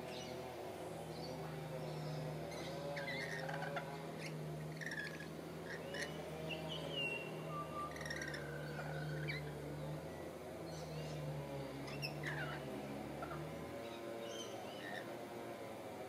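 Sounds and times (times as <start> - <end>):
birds chirping and whistling: 1.1 - 15.1.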